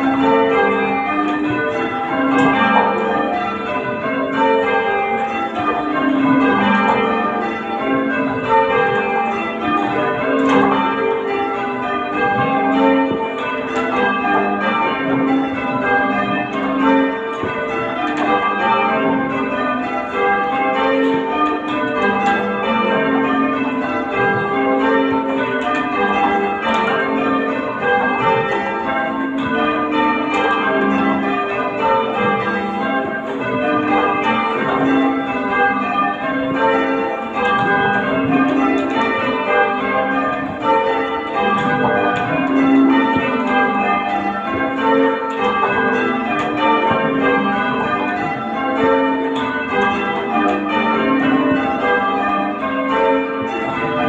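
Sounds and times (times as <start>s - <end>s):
church bells change ringing: 0.0s - 54.0s.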